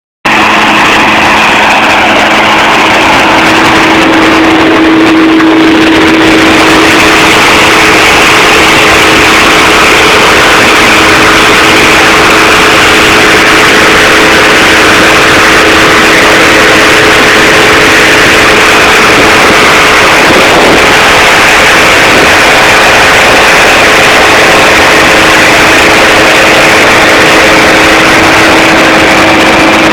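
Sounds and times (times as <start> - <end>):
rush of air: 0.3 - 29.9.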